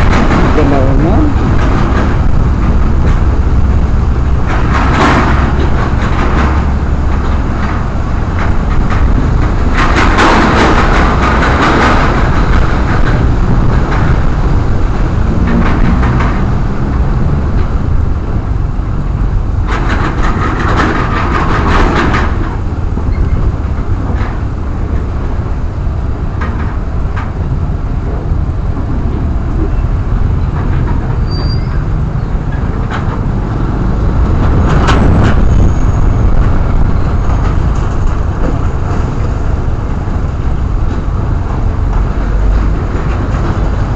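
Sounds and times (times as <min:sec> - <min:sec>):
wind and road noise: 0:00.0 - 0:43.9.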